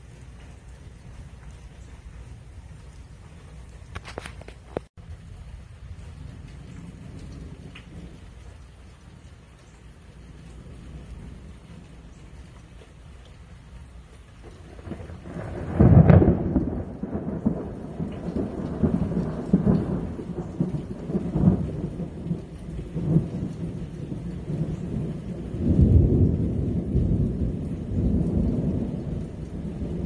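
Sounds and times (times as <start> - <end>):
thunder clap and rolling rumble: 2.0 - 12.9, 14.2 - 30.0.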